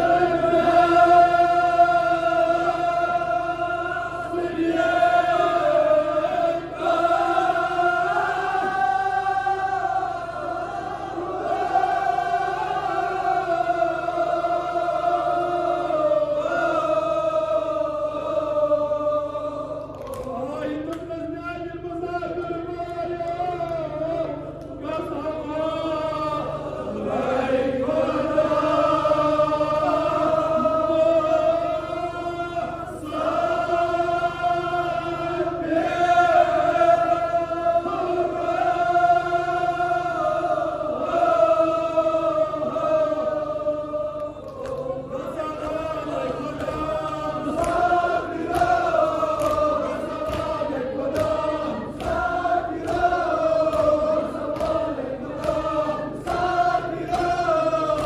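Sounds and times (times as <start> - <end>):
leading reciter singing: 0.0 - 58.0
men chanting a lament in unison: 0.0 - 58.0.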